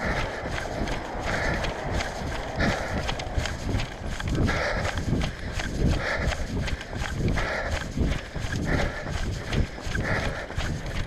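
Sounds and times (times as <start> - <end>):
running footsteps on pavement: 0.0 - 11.0.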